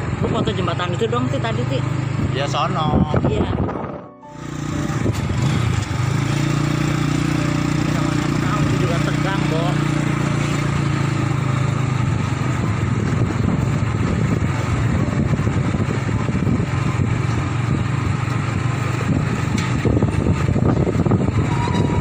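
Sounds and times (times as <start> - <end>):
motorbike engine running: 0.0 - 22.0
road and wind noise: 0.0 - 22.0.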